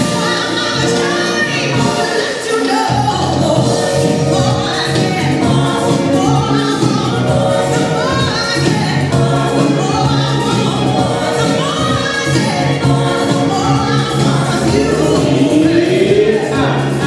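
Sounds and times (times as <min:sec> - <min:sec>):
dance music with singing: 0:00.0 - 0:17.0.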